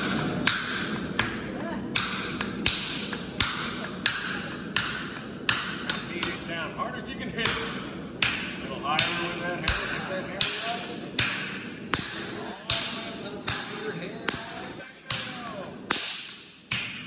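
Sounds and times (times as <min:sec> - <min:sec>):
hammer ringing on anvil: 0:02.0 - 0:06.6, 0:07.4 - 0:17.0.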